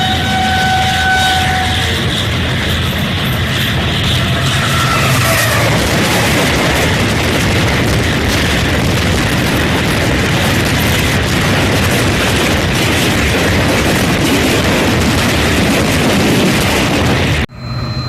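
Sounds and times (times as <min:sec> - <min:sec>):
diesel train running: 0:00.0 - 0:18.0.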